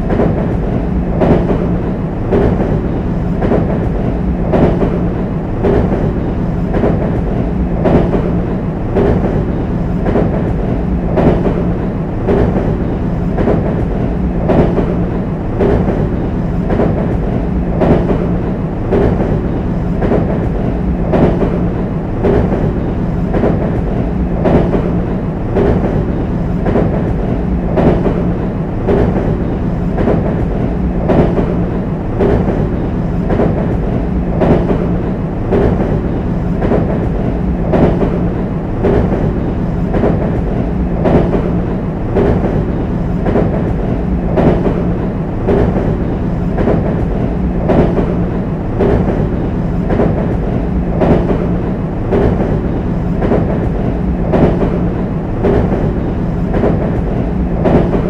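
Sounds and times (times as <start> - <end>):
train rumbling on bridge: 0.0 - 58.0
wheels clacking over rail joints: 0.0 - 58.0.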